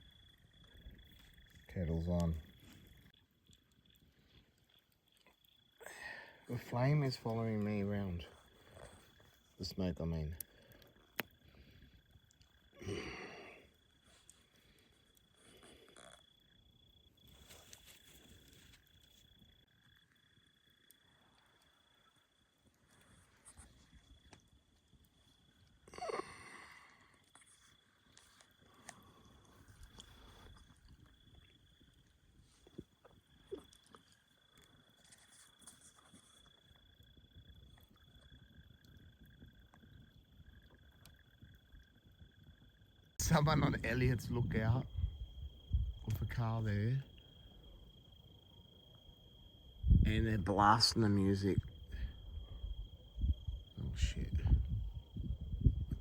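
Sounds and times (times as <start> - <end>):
high-pitched insect trill: 0.0 - 56.0
lower insect trill: 0.0 - 56.0.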